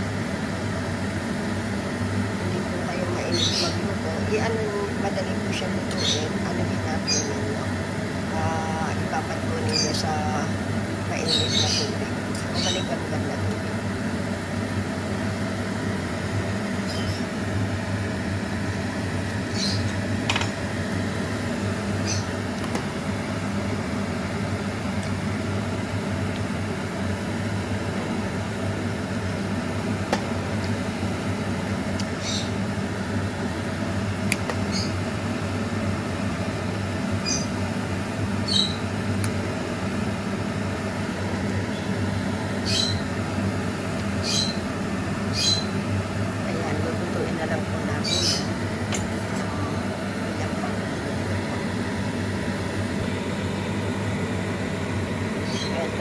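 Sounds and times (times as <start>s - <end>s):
electric stove hum: 0.0s - 56.0s.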